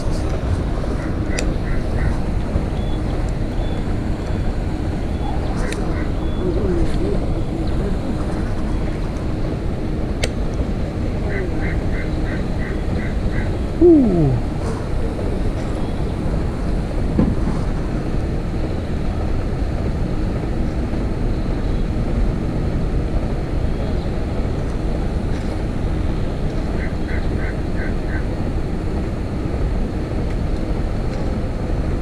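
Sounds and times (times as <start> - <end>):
wind rumble on microphone: 0.0 - 32.0.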